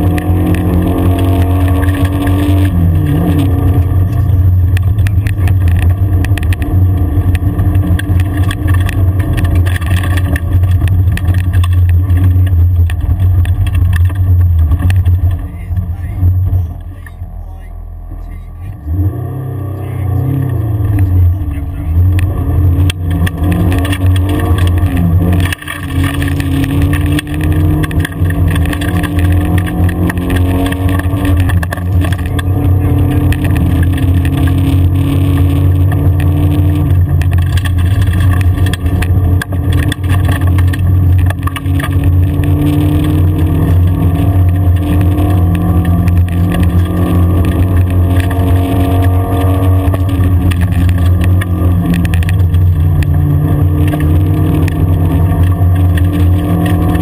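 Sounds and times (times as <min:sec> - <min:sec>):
car engine under load: 0:00.0 - 0:57.0.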